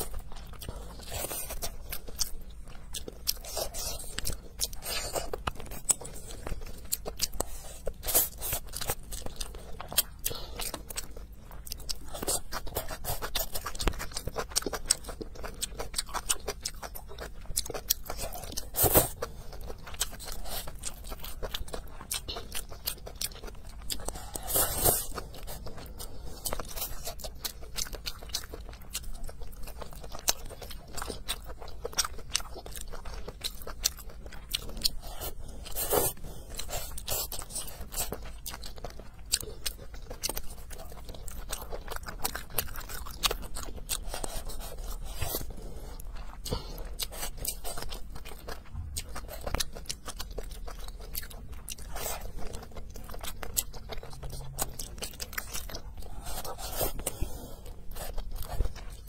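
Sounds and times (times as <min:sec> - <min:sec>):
wet chewing with mouth clicks: 0:00.0 - 0:59.0.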